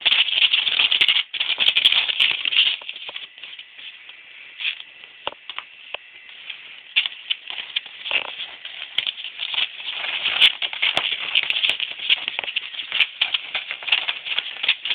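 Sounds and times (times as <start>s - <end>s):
dog paws scrabbling on ground: 0.0s - 14.9s.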